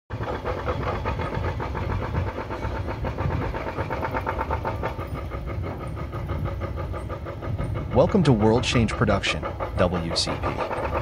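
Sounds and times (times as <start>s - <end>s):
engine running: 0.1s - 11.0s.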